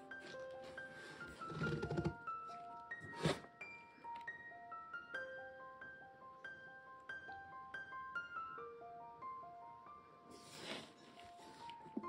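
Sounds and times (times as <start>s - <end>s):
light keyboard melody: 0.0s - 12.0s.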